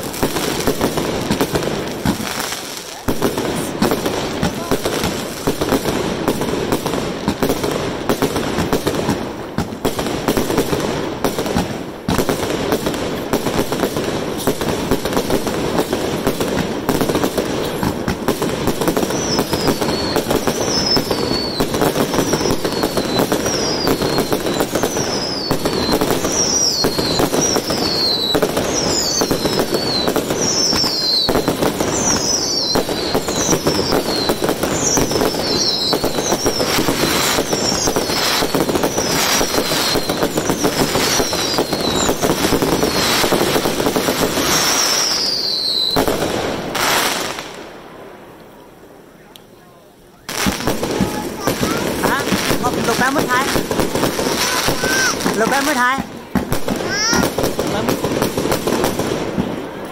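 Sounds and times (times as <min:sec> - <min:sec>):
fireworks whistles: 0:00.0 - 0:47.7, 0:50.2 - 0:59.9
fireworks crackling and popping: 0:00.0 - 0:59.9.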